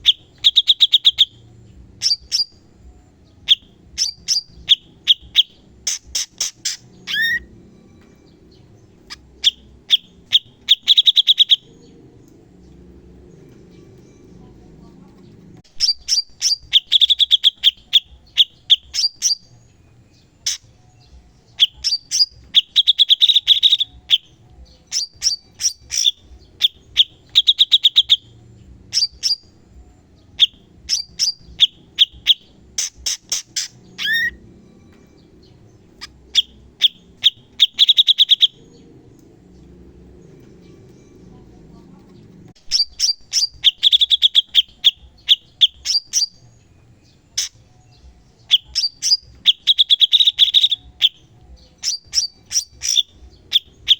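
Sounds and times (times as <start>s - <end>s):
bird singing clicks and trills: 3.4s - 13.7s, 15.1s - 19.6s, 20.4s - 28.3s, 30.4s - 40.6s, 42.0s - 46.5s, 47.4s - 53.9s.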